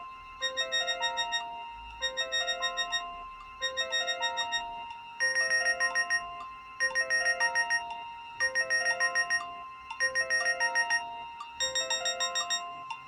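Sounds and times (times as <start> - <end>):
mobile phone ringtone: 0.4 - 12.9.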